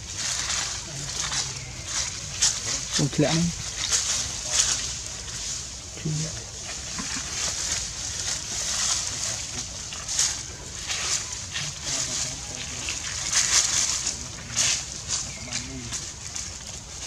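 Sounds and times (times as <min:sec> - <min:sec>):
dry leaves rustling and crackling: 0:00.0 - 0:17.0
steady high hiss: 0:00.0 - 0:17.0.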